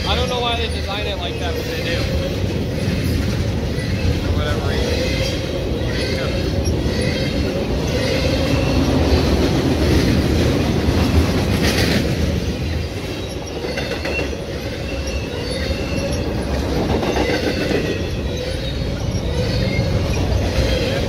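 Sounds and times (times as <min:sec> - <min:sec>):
train wheels rumbling on rails: 0:00.0 - 0:21.0
wheel squeals: 0:00.0 - 0:21.0.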